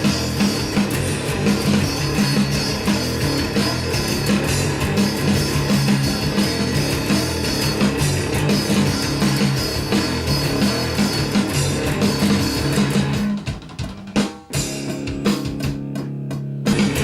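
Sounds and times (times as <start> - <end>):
electric guitar rock riff: 0.0 - 17.0.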